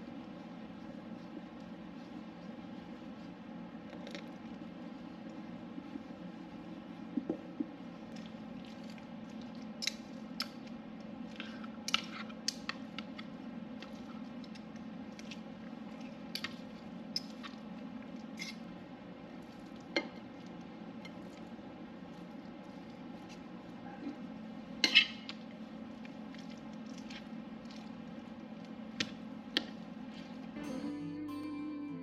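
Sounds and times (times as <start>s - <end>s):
utensil squishing wet mixture: 0.0s - 30.6s.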